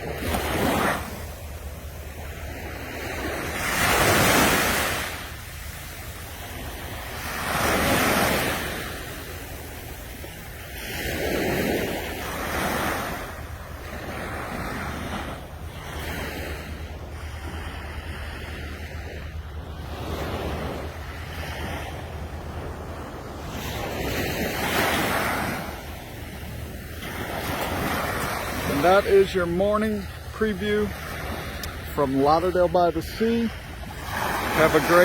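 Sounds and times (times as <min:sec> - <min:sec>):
ocean waves breaking on beach: 0:00.0 - 0:35.0.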